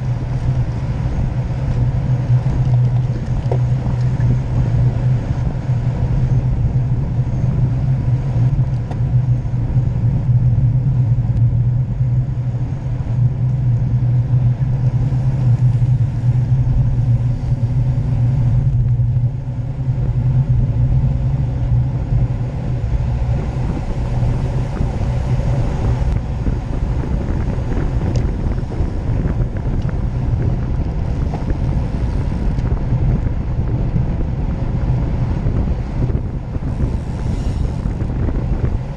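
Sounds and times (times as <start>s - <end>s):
road and tyre rumble: 0.0s - 38.9s
wind rushing over microphone: 0.0s - 38.9s.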